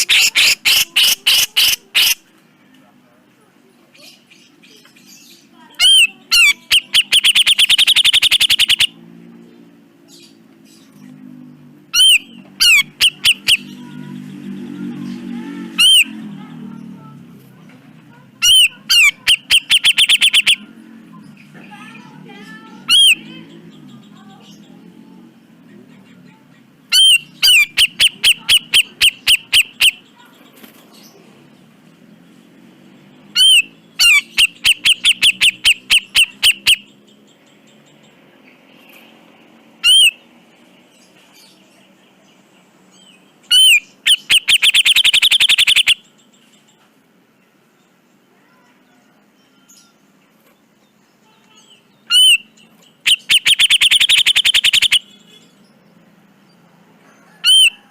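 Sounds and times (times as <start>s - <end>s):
bulbul singing: 0.0s - 2.4s, 4.0s - 38.7s, 39.5s - 48.3s, 49.2s - 56.7s, 57.3s - 57.9s.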